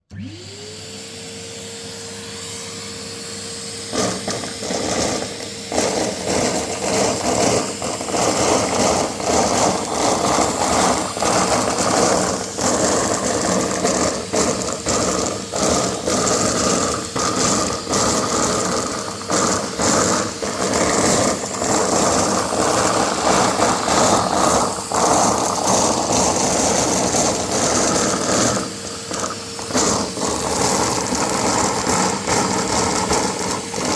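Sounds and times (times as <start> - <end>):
vacuum cleaner motor: 0.0 - 33.9
confetti rattling through nozzle: 3.9 - 33.9.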